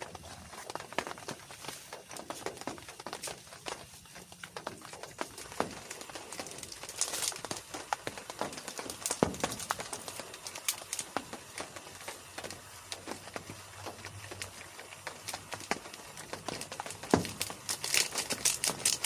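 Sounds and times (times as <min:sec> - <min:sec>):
raindrops tapping a surface: 0:00.0 - 0:19.0.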